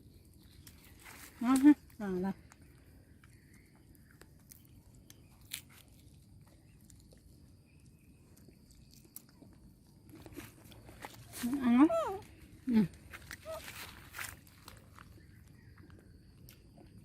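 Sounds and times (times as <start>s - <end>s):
monkey chewing fruit: 2.5s - 17.0s.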